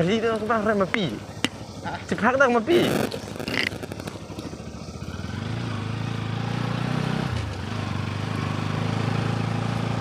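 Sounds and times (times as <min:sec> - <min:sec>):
motorcycle engine pulling away: 0:00.0 - 0:10.0.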